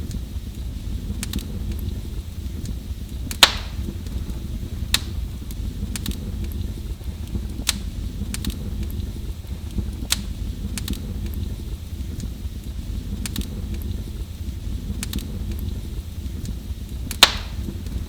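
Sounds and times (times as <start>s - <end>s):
fire popping: 0.0s - 18.0s
fireplace fire crackling: 0.0s - 18.0s
low steady rumble: 0.0s - 18.0s.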